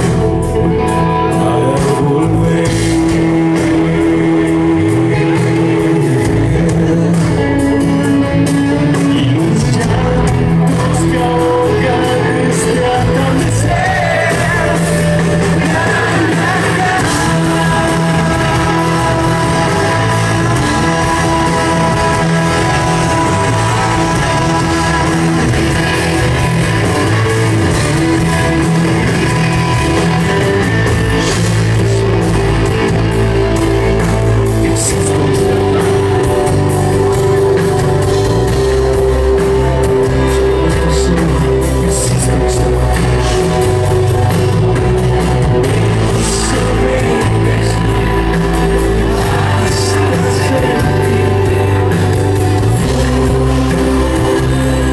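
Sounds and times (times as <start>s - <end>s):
man singing: 0.0s - 54.9s
rock band playing live: 0.0s - 54.9s.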